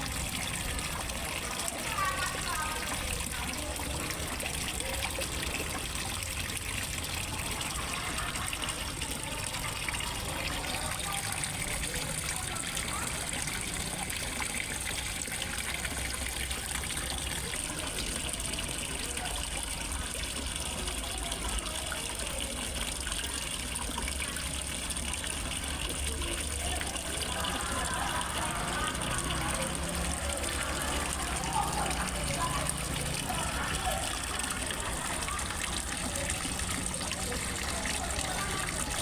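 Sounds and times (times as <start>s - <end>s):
water splashing into pond: 0.0s - 39.0s.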